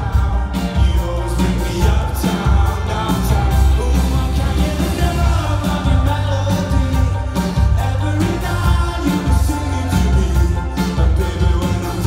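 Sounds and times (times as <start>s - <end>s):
bass guitar: 0.0s - 12.0s
man singing: 0.0s - 12.0s
steady drum beat: 0.0s - 12.0s.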